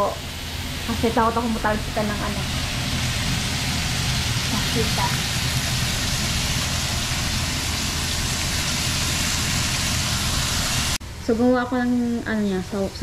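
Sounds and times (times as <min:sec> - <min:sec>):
meat sizzling in a frying pan: 0:00.0 - 0:11.0
low hum: 0:00.0 - 0:11.4.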